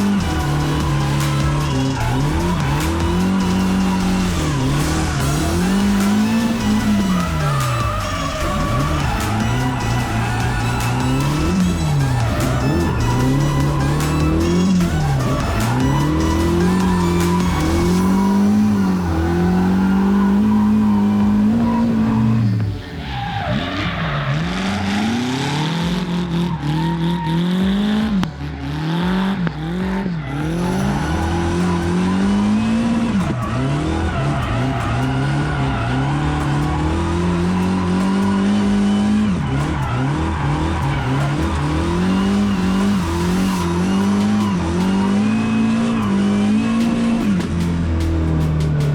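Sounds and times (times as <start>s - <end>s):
car engine revving: 0.0s - 48.9s
tyres squealing and skidding: 0.0s - 48.9s.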